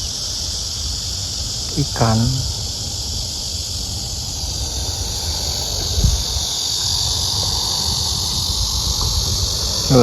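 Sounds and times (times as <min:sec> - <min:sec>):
insects shrilling: 0:00.0 - 0:10.0
low uneven rumble: 0:00.9 - 0:10.0.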